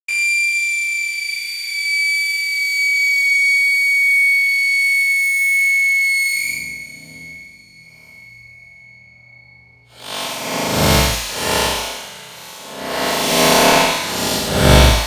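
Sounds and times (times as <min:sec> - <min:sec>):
whistling firework: 0:00.1 - 0:15.0.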